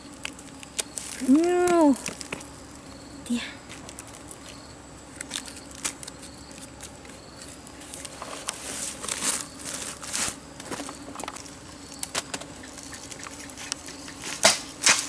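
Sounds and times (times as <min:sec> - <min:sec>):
fungi snapping and cracking: 0:00.0 - 0:02.8, 0:03.6 - 0:15.0
rustling: 0:00.0 - 0:15.0.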